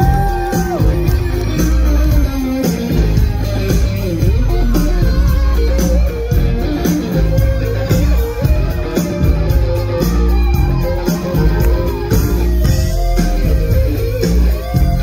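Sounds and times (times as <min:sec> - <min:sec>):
electric guitar: 0:00.0 - 0:15.0
heavy bass line: 0:00.0 - 0:15.0
steady drum beat: 0:00.0 - 0:15.0.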